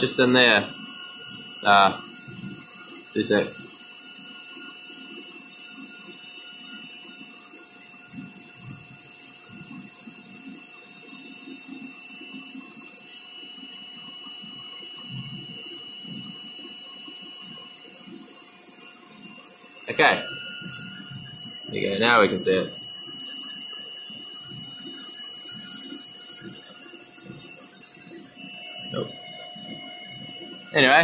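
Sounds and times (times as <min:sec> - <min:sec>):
mill hissing and whining: 0:00.0 - 0:31.0.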